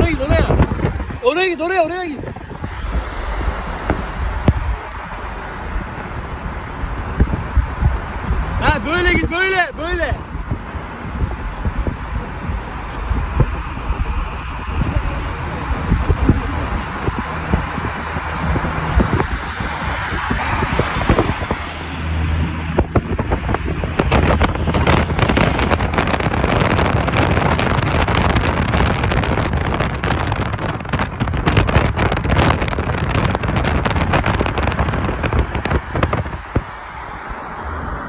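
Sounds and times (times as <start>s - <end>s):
car engines droning: 0.0s - 38.0s
wind buffeting microphone: 0.0s - 38.0s.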